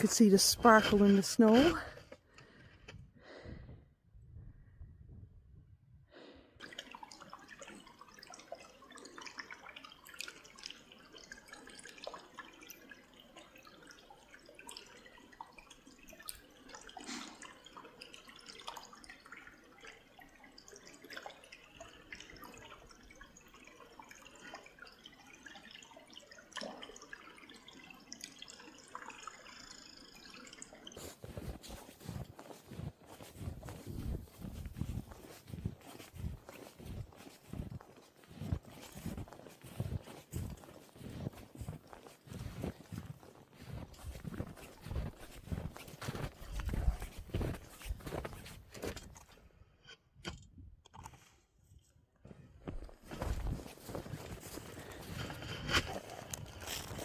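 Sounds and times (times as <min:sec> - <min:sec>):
brook water trickling: 0:00.0 - 0:02.6, 0:06.6 - 0:49.4, 0:52.8 - 0:57.0.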